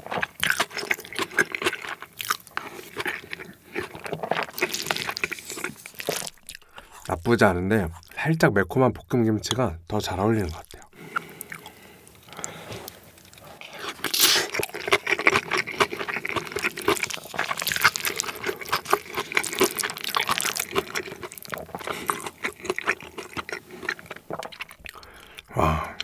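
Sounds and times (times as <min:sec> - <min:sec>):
chopsticks and spoon mashing wet food: 0:00.0 - 0:08.3, 0:09.2 - 0:26.0.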